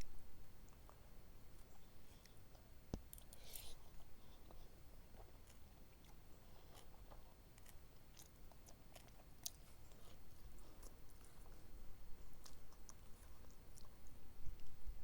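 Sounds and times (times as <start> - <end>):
chewing with wet mouth clicks: 1.6 - 14.8.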